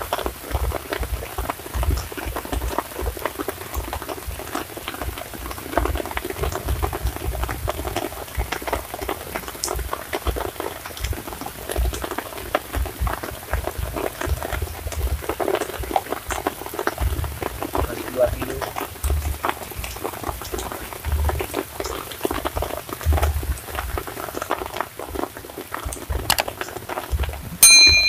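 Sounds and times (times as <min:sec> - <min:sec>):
low uneven rumbling: 0:00.0 - 0:28.0
water splashing into a pond: 0:00.0 - 0:28.0.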